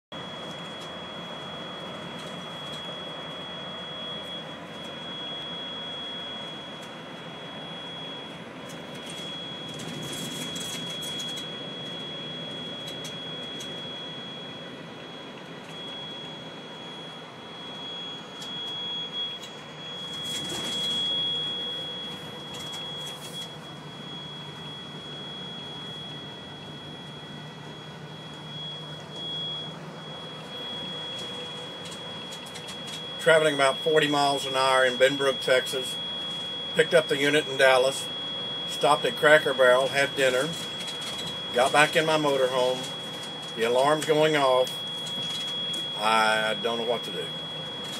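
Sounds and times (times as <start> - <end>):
high-pitched alarm tone: 0.1 - 47.9.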